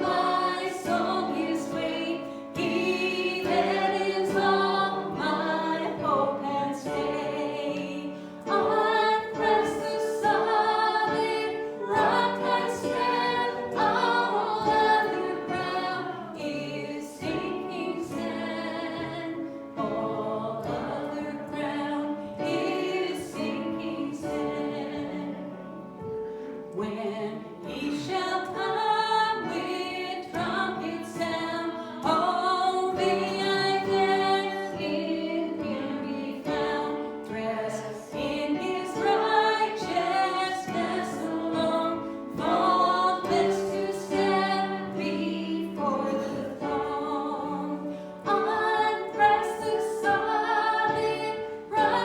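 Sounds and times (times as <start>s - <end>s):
congregation singing a hymn: 0.0s - 52.0s.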